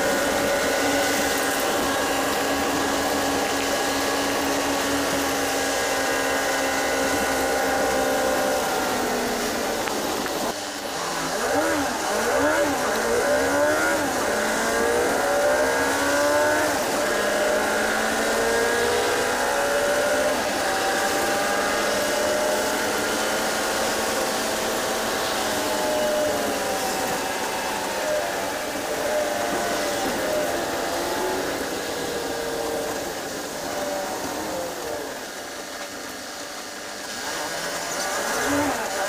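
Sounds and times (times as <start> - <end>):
bus engine whining: 0.0 - 39.0
road noise hiss: 0.0 - 39.0.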